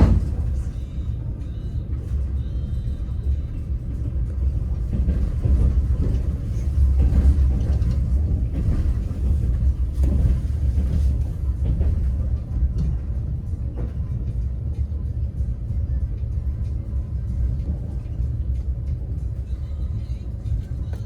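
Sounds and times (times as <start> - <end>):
train carriage rumbling: 0.0 - 21.0.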